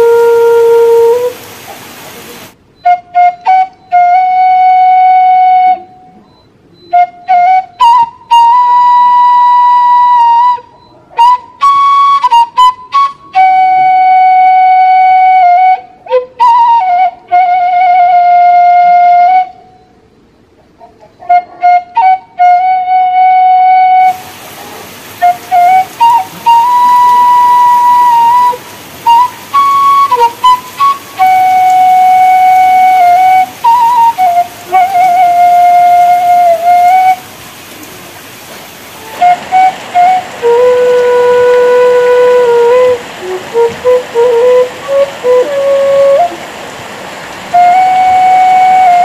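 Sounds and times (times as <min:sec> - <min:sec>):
solo flute melody: 0:00.0 - 0:20.3, 0:21.1 - 0:24.4, 0:25.1 - 0:38.0, 0:38.9 - 0:49.0.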